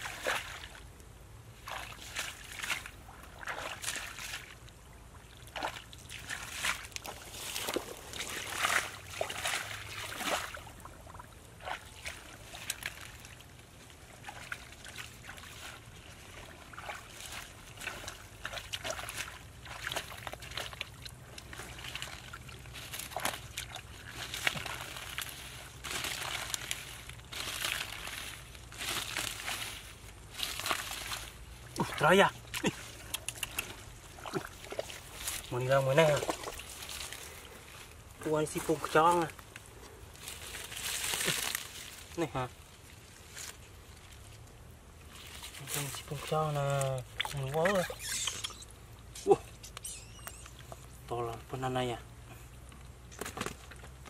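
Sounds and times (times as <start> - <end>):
sloshing and splashing in water: 0.0 - 54.0.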